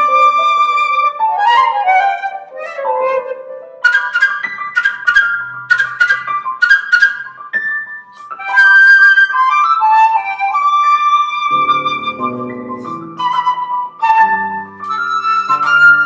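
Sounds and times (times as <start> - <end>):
flute notes: 0.0 - 16.0
piano notes: 0.0 - 16.0.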